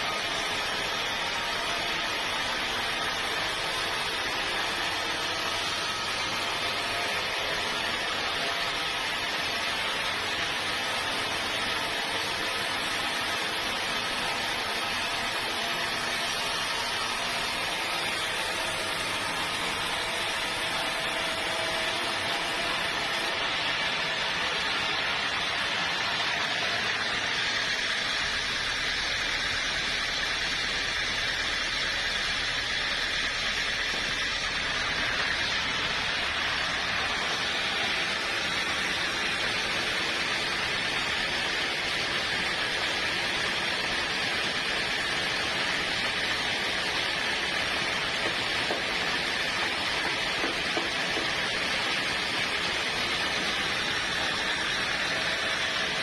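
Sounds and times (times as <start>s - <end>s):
sawmill machinery rushing: 0.0s - 56.0s.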